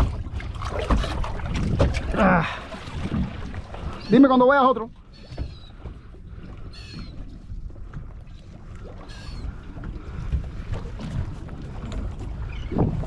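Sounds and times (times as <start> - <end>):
low rumble of water and wind: 0.0 - 13.0.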